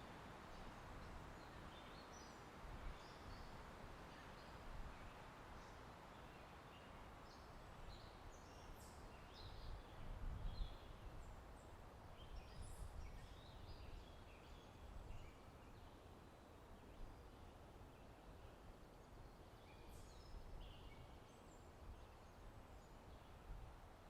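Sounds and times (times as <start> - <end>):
low rumble of wind: 0.0 - 24.0.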